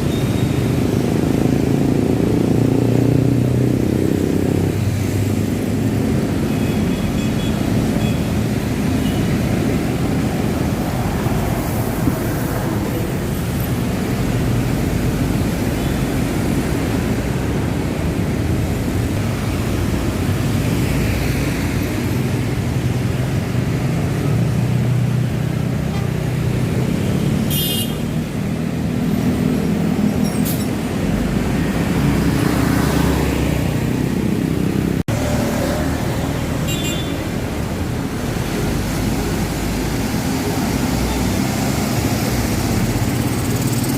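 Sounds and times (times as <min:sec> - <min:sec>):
traffic engines passing: 0:00.0 - 0:43.9.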